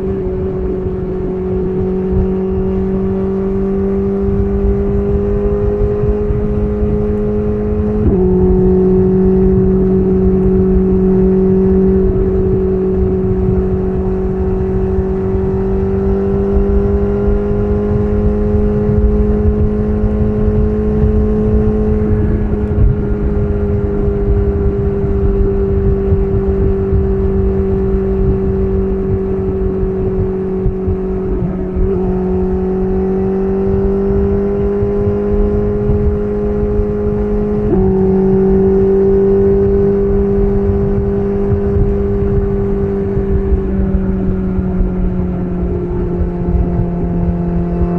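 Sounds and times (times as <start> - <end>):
motorcycle engine cruising: 0.0 - 47.9
low rumble: 4.2 - 47.9.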